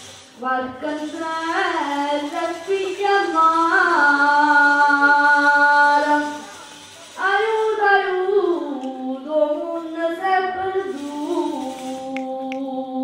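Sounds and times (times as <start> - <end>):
woman singing folk melody: 0.3 - 13.0.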